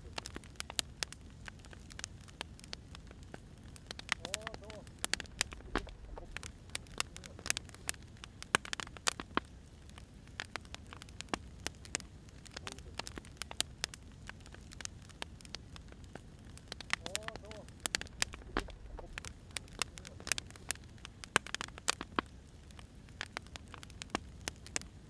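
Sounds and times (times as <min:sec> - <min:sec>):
firewood crackling and popping: 0:00.0 - 0:25.0
low steady fire hiss: 0:00.0 - 0:25.0.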